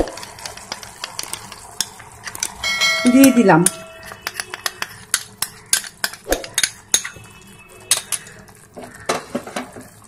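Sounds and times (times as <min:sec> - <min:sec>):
spoon clinking against pot: 0:00.2 - 0:08.4.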